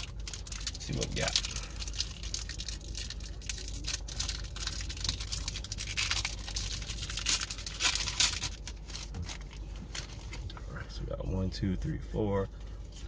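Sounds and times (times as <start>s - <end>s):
foil wrapper crinkling and tearing: 0.0s - 10.5s.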